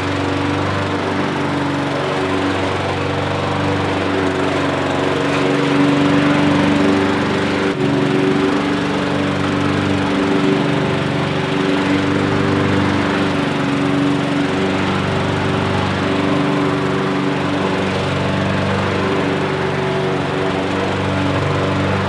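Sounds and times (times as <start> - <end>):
lawn mower running: 0.0 - 22.0.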